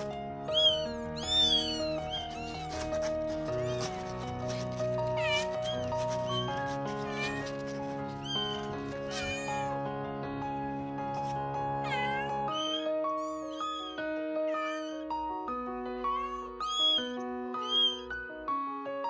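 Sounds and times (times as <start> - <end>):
kittens mewing: 0.0 - 9.8, 11.2 - 15.2, 16.0 - 18.1.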